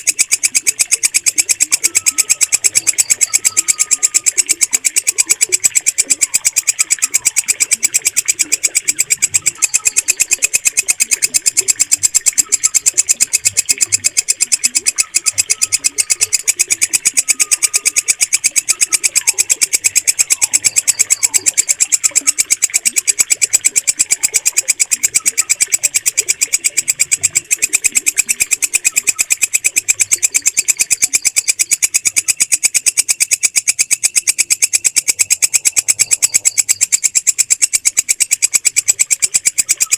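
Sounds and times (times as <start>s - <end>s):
bush cricket chirping: 0.0s - 39.9s.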